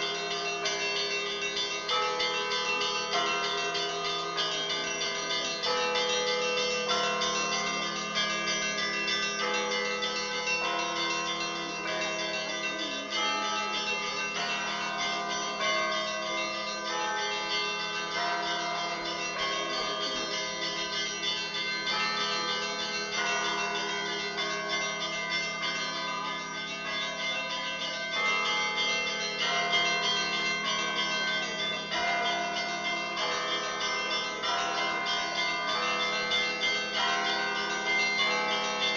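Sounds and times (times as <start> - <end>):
church bells ringing a peal: 0.0 - 38.9
low bell ringing tone: 0.0 - 38.9.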